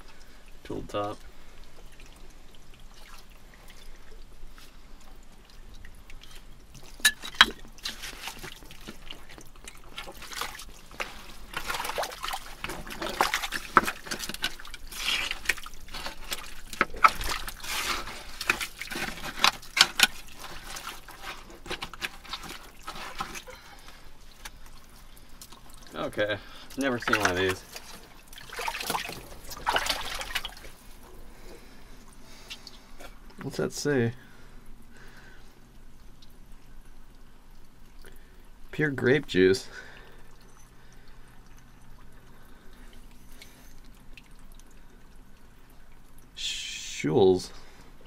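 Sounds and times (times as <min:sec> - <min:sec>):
water trickling and sloshing: 0:00.0 - 0:48.0.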